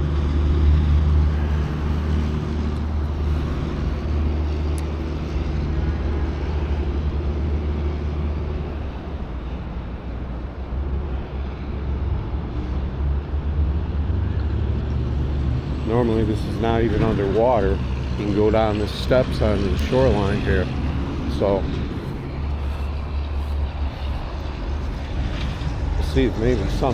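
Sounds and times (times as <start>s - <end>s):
water roaring over dam spillway: 0.0s - 26.9s.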